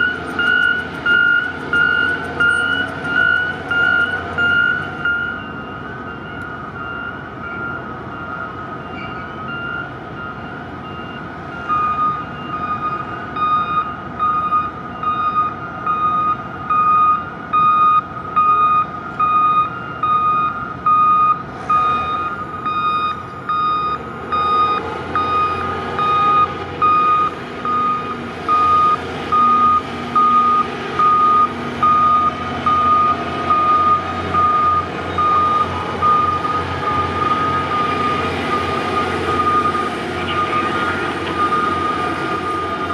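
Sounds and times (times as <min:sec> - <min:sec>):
high warning beeps: 0:00.0 - 0:42.9.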